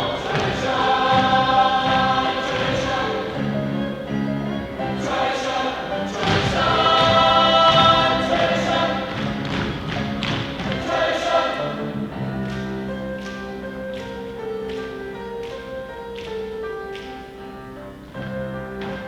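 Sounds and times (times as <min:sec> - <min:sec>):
chorus singing: 0:00.0 - 0:16.0.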